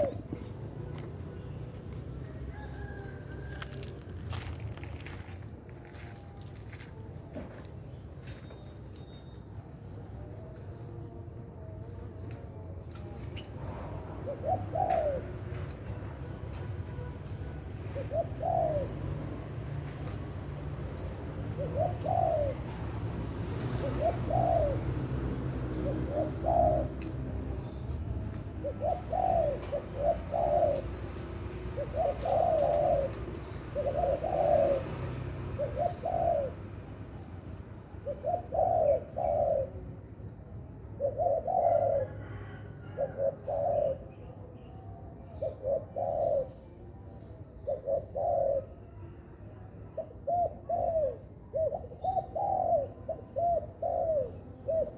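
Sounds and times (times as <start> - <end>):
dove cooing: 0.0 - 6.2, 9.7 - 54.9.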